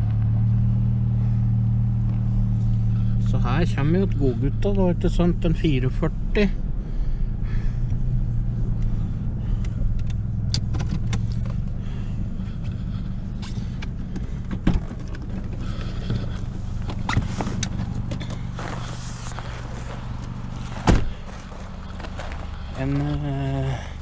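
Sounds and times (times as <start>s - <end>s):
car engine idling inside cabin: 0.0s - 24.0s.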